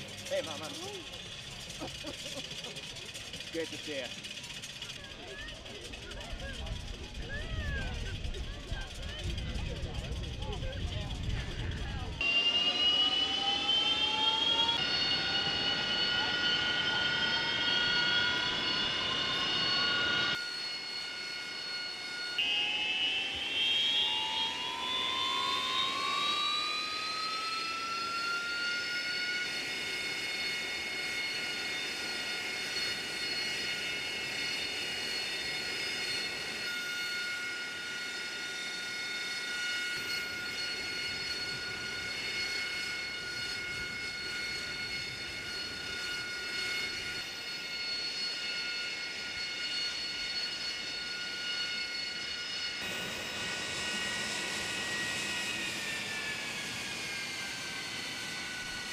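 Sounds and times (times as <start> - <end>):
jet engine whining: 0.0 - 58.9.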